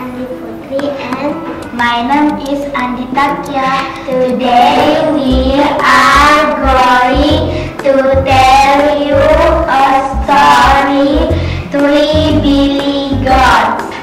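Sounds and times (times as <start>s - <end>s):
girl singing: 0.0s - 14.0s
instrumental backing music: 0.0s - 14.0s.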